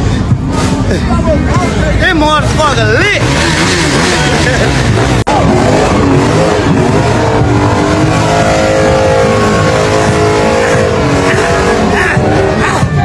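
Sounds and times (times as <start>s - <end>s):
dirt bike engine revving high: 1.6s - 13.0s.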